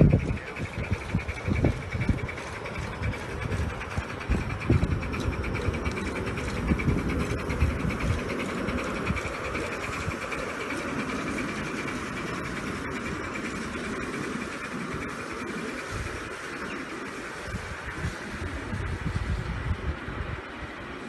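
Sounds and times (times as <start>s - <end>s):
steam locomotive exhaust beat: 0.0s - 21.0s
wheel and rail clatter: 0.0s - 21.0s.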